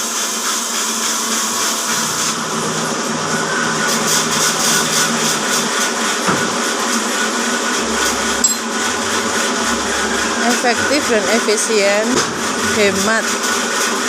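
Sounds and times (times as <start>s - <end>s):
band sawmill running: 0.0s - 14.0s.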